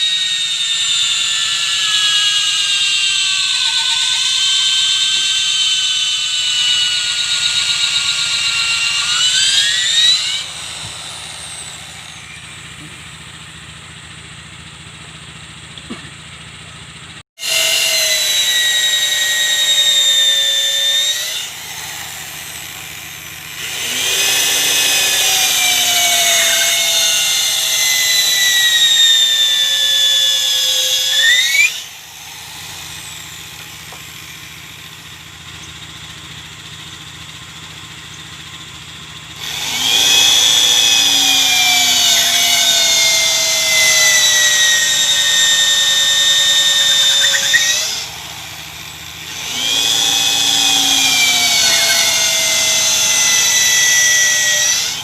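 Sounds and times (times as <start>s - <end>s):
power tool motor whining: 0.0s - 15.2s, 17.4s - 55.0s
power tool humming: 0.0s - 55.0s.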